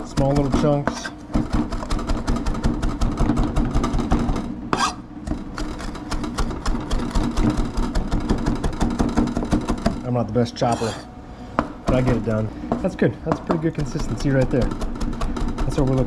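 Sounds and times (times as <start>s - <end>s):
knife chopping on cutting board: 0.0s - 5.0s, 5.6s - 10.0s, 11.6s - 16.0s
steady low hum: 0.0s - 16.0s.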